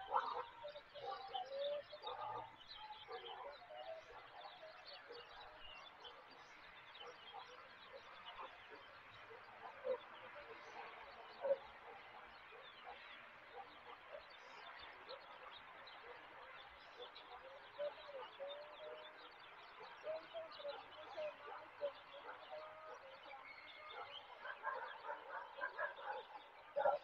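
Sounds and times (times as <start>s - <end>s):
birds chirping in chorus: 0.0s - 27.0s.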